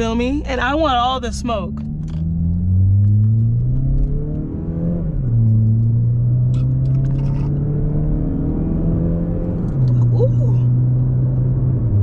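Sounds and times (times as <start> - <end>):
car exhaust accelerating: 0.0 - 12.0.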